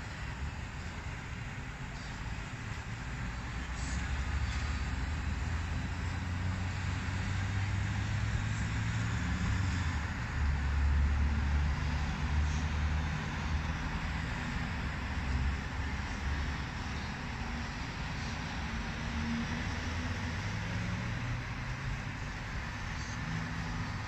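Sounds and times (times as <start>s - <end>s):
cars and buses on busy road: 0.0s - 24.0s.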